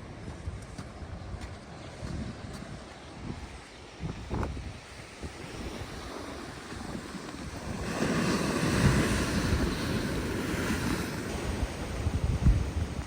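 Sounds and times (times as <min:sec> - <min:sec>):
wind buffeting microphone: 0:00.0 - 0:13.0
sea surf breaking on shore: 0:01.3 - 0:13.0.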